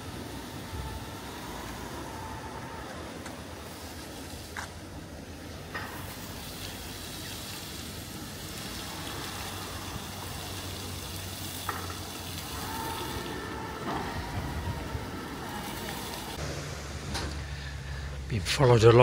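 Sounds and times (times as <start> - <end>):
churning water wash: 0.0 - 17.3
boat engine hum: 0.0 - 18.4.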